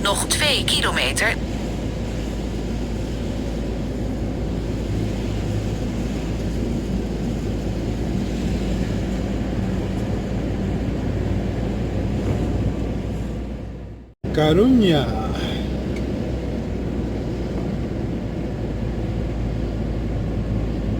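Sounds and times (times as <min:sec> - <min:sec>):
engine hum inside vehicle: 0:01.5 - 0:20.9.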